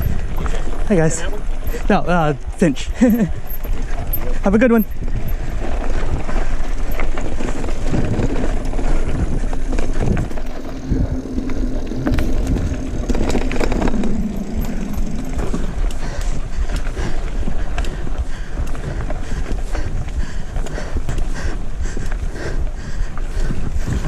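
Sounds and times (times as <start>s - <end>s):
bike clicks and rattles: 0.0s - 24.0s
mountain bike tyre and drivetrain noise: 0.0s - 24.0s.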